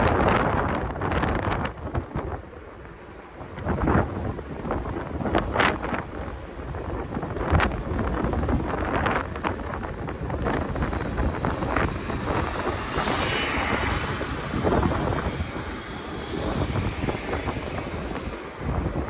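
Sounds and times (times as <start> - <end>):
electric scooter road rumble: 0.0 - 19.0
wind buffeting microphone: 0.0 - 19.0.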